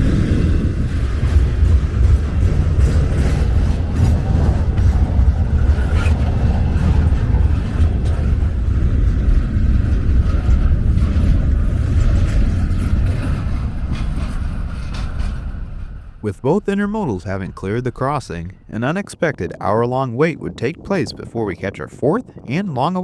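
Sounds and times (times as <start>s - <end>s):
train wheels rumbling on rail: 0.0s - 22.5s.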